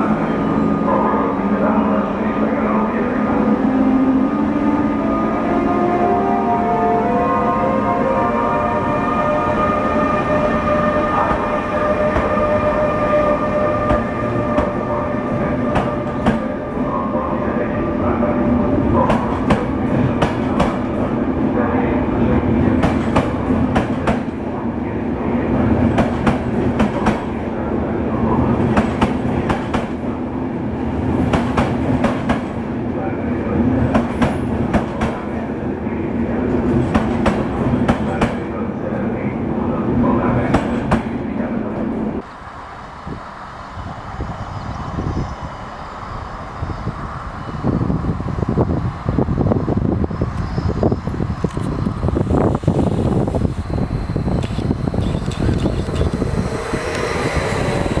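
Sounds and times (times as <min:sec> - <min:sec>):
electric locomotive whining: 0:00.0 - 0:58.0
train rumble: 0:00.0 - 0:58.0.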